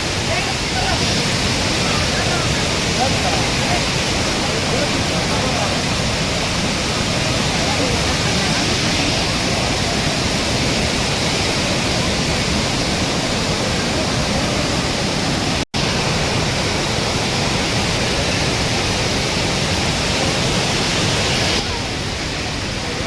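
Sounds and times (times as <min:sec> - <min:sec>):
waterfall rushing water: 0:00.0 - 0:23.0.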